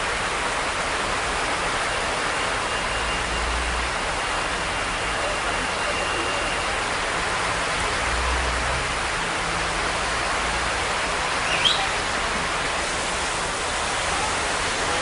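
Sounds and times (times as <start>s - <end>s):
heavy rain pouring: 0.0s - 15.0s
runoff water on street: 0.0s - 15.0s.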